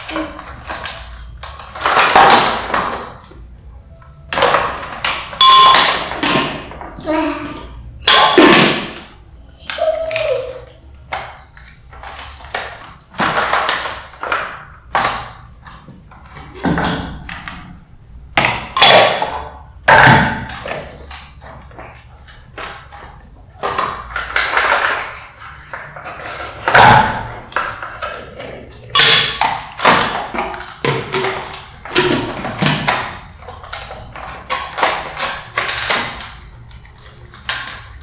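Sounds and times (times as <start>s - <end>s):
utensils clinking against dishes: 0.0s - 38.0s.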